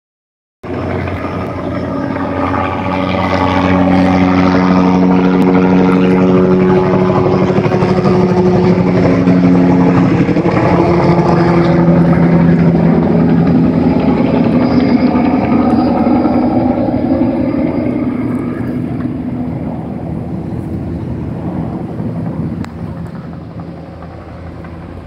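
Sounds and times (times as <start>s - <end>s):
helicopter flying overhead: 0.6s - 25.0s.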